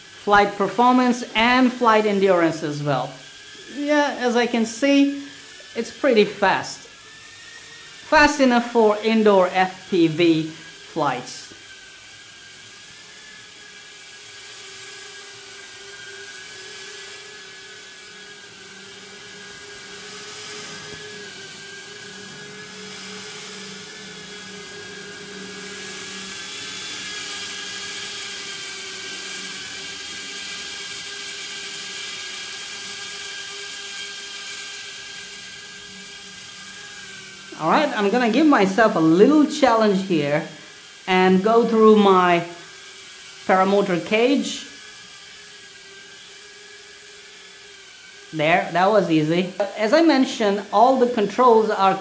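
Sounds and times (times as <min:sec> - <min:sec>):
small drone buzzing whine: 0:00.0 - 0:52.0.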